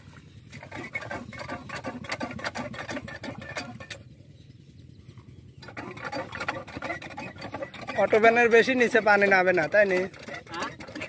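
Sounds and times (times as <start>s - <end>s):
diesel engine running: 0.0s - 11.0s
rapid mechanical clatter: 0.5s - 4.1s, 5.6s - 11.0s.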